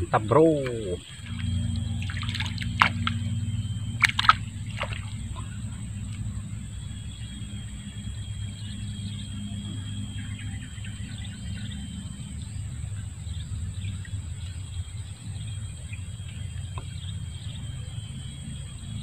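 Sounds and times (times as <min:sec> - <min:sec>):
faint bird chirps: 0:00.0 - 0:19.0
low rumble: 0:00.0 - 0:19.0.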